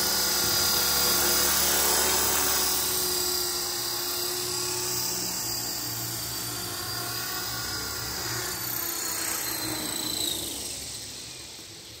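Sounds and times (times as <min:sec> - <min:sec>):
rc helicopter motor whine: 0:00.0 - 0:12.0
rotor blades whirring: 0:00.0 - 0:12.0.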